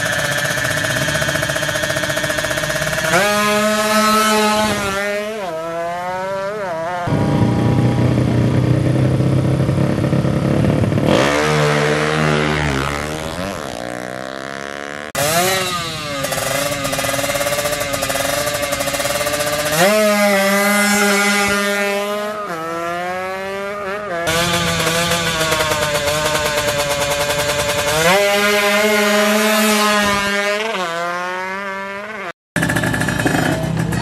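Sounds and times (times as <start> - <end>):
motorcycle engine revving hard: 0.0 - 34.0.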